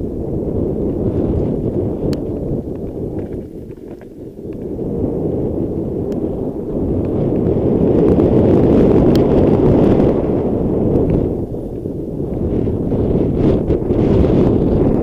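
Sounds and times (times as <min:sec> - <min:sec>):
bike rumbling and rattling: 0:00.0 - 0:15.0
wind buffeting microphone: 0:00.0 - 0:15.0.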